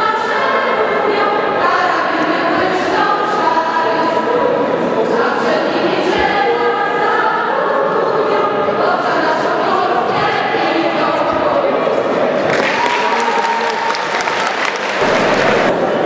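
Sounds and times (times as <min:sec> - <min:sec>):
choir singing: 0:00.0 - 0:12.5, 0:14.8 - 0:16.0.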